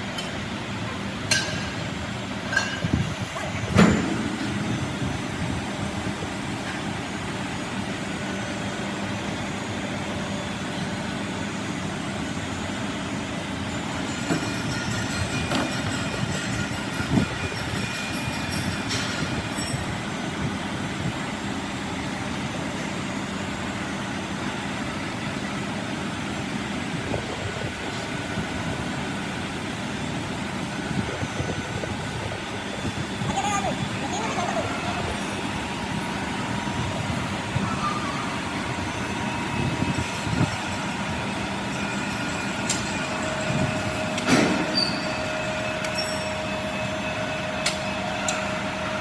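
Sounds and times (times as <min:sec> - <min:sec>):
heavy machinery humming: 0:00.0 - 0:49.0.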